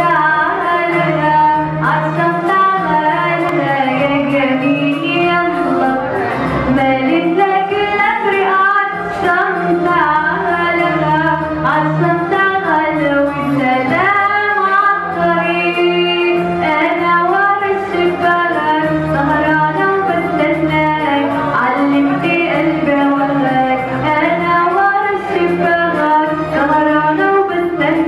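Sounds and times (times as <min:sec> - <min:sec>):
woman singing into a microphone: 0:00.0 - 0:28.0.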